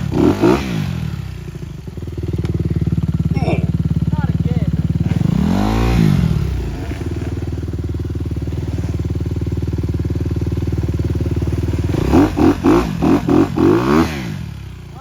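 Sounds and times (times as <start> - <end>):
motorbike engine idling: 0.0 - 15.0
motorbike throttle blips: 2.0 - 15.0.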